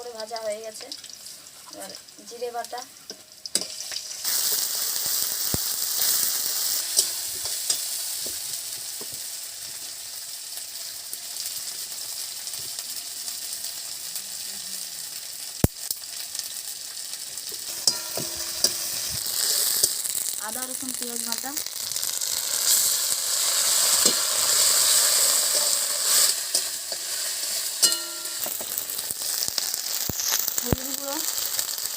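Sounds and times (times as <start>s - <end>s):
food sizzling in hot oil: 0.0s - 31.9s.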